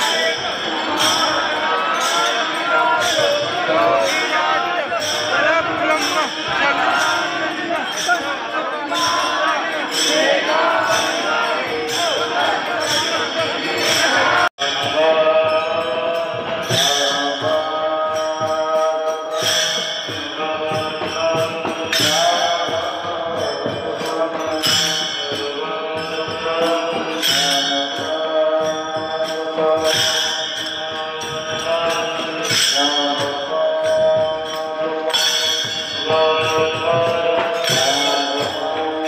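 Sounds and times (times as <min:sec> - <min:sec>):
men chanting together: 0:00.0 - 0:39.0
small hand cymbals: 0:00.0 - 0:39.0.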